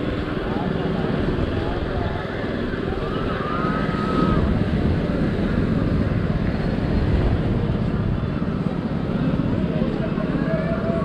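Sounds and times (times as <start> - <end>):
faint voices of people: 0.0 - 11.0
wind buffeting microphone: 0.0 - 11.0.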